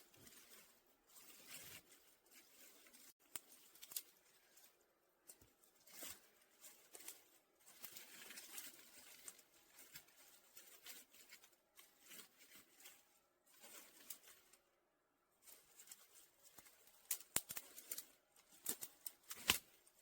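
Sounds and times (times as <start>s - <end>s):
dry twigs snapping and rustling: 0.0s - 14.6s, 15.4s - 20.0s.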